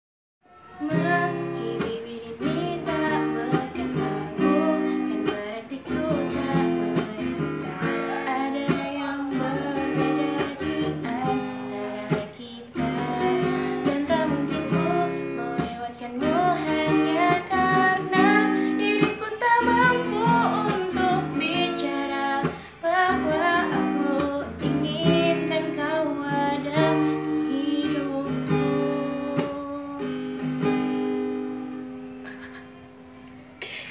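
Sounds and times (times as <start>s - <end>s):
young woman singing: 0.5s - 32.1s
strummed acoustic guitar: 0.6s - 33.4s.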